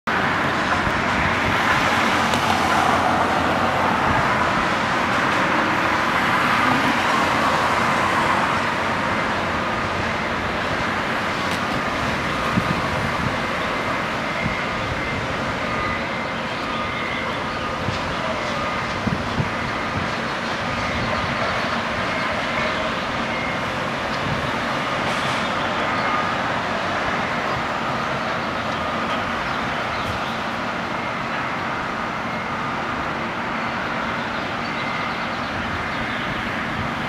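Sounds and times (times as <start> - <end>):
passing cars: 0.1 - 37.0.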